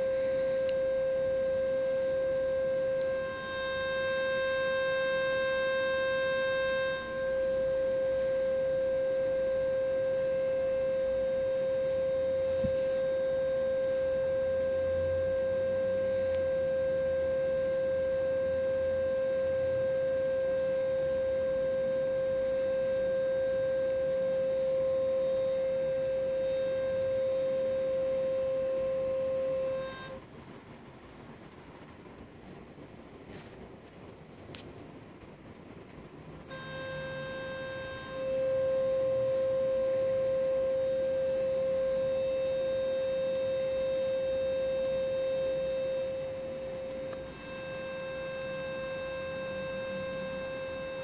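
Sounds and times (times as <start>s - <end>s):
high-pitched electronic tone: 0.0s - 30.2s, 36.5s - 51.0s.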